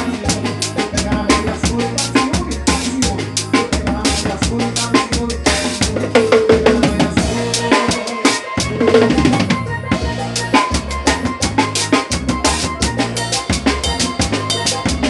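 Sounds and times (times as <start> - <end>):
drum kit beat: 0.0 - 15.0
steady bass line: 0.0 - 15.0.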